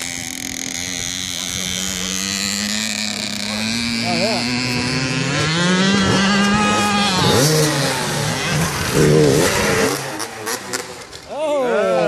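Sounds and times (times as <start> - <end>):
dirt bike engine revving: 0.0 - 11.3.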